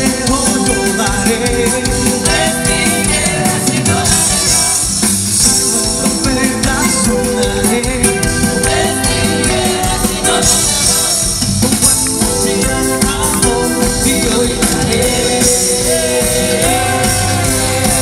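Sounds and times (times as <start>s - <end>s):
worship music with singing: 0.0s - 18.0s.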